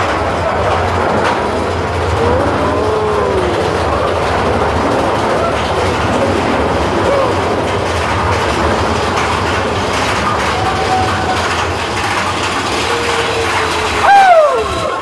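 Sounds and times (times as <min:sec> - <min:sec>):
roller coaster rumbling and rattling: 0:00.0 - 0:15.0.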